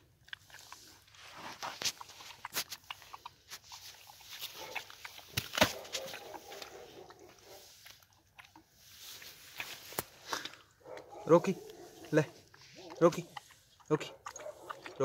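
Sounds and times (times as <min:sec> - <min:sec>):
puppy chewing: 0:00.0 - 0:15.0.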